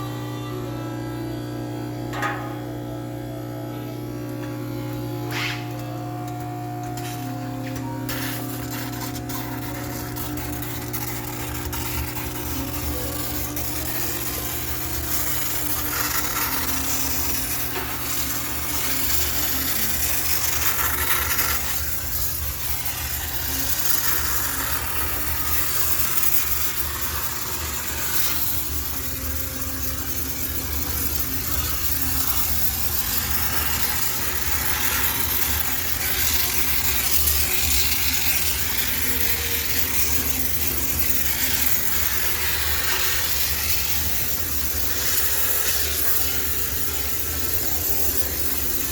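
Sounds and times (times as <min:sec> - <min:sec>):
steam unit low hum: 0:00.0 - 0:48.9
steam cleaner hissing: 0:04.5 - 0:48.9.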